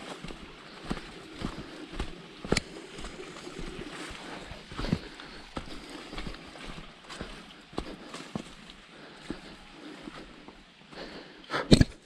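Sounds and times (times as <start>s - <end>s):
steady rustling hiss: 0.0s - 11.5s
footsteps on a trail: 0.0s - 12.0s.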